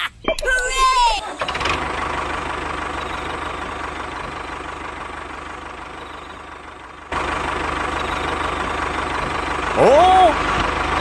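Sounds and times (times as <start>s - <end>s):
tractor engine idling: 0.3s - 11.0s.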